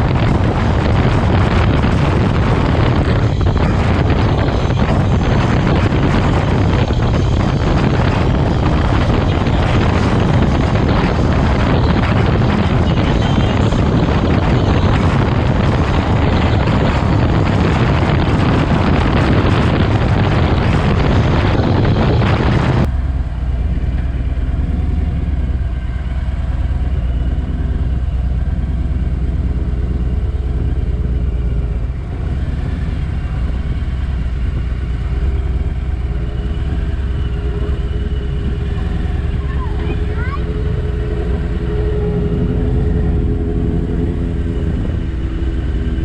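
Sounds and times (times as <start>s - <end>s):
motorcycle engine running: 0.0s - 46.0s
wind noise on microphone: 0.0s - 46.0s.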